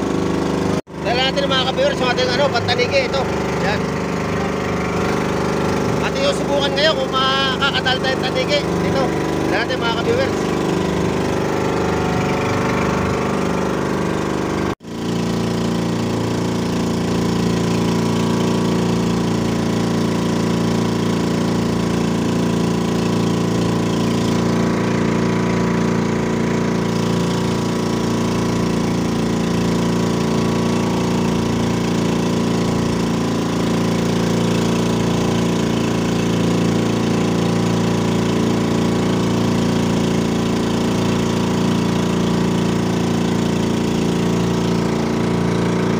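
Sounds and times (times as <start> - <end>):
boat engine running steadily: 0.0 - 45.9.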